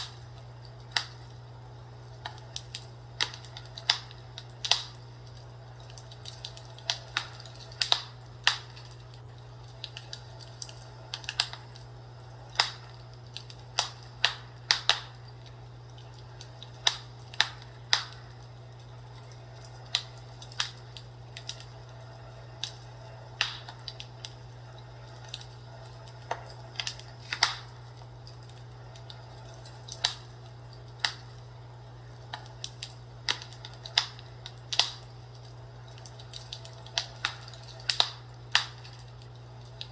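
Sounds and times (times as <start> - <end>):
burning wood crackling: 0.0 - 39.9
steady low hum: 0.0 - 39.9.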